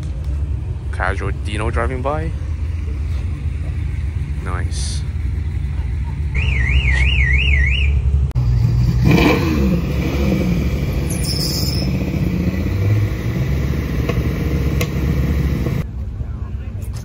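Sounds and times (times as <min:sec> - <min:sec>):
car engine running: 0:00.0 - 0:15.8.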